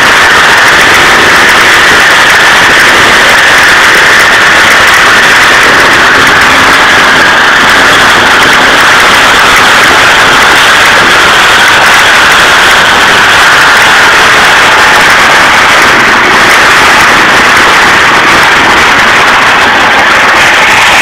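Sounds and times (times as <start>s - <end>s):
loud outboard motor running: 0.0s - 21.0s.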